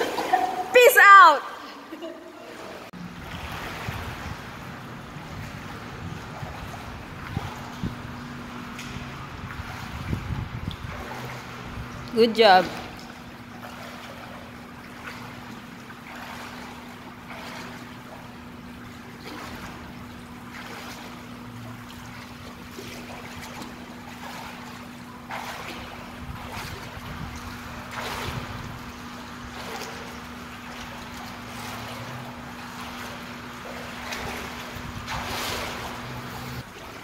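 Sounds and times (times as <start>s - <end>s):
water splashing in pool: 0.0s - 37.0s.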